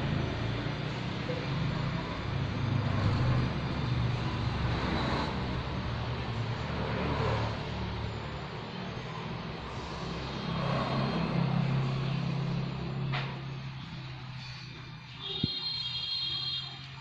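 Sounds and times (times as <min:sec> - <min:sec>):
road traffic hum: 0:00.0 - 0:17.0
vehicles passing: 0:00.0 - 0:17.0.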